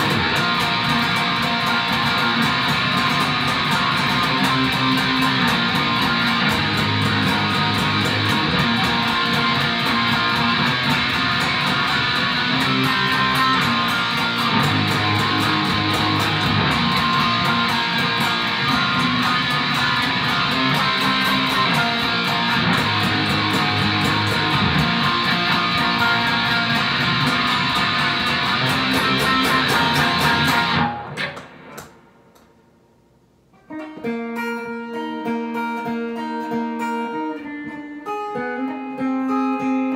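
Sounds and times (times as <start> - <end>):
rock electric guitar: 0.0 - 32.5
steady beat: 0.0 - 32.6.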